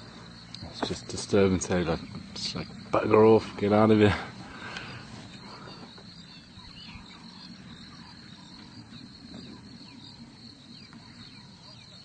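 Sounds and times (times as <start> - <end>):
insects chirping: 0.0 - 12.0
low background rumble: 0.0 - 12.0.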